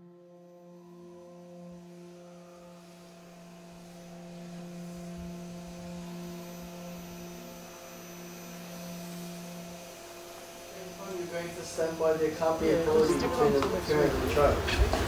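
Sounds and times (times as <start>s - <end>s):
low ambient drone: 0.0s - 15.0s.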